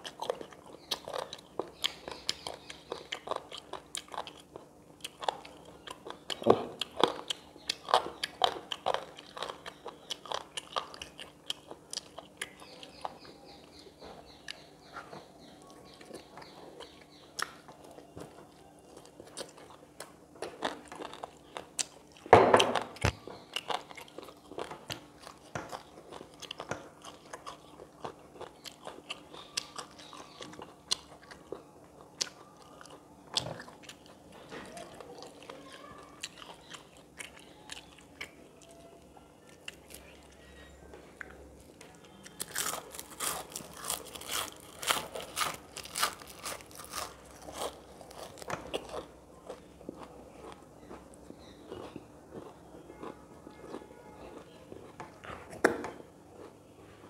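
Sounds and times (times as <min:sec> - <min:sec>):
person crunching and chewing food: 0:00.0 - 0:57.0.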